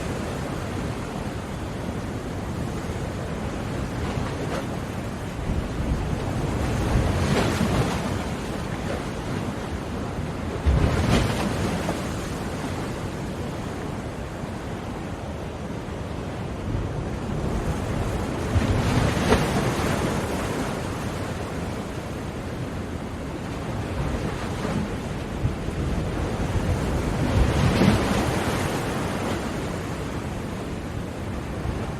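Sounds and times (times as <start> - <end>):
waves breaking on shore: 0.0 - 31.9.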